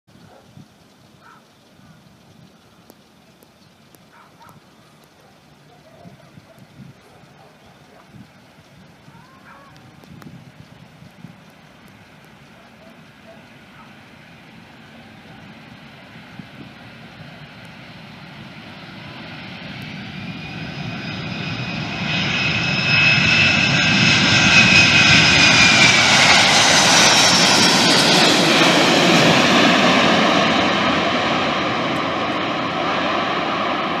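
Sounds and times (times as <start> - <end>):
high engine whine: 0.1 - 34.0
jet engines roaring: 0.2 - 34.0.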